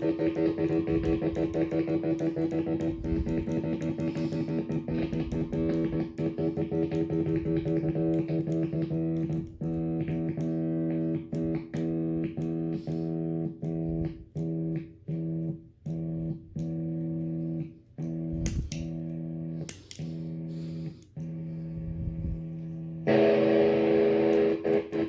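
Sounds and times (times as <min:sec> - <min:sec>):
electric guitar chord stuttering: 0:00.0 - 0:21.4, 0:23.0 - 0:25.0.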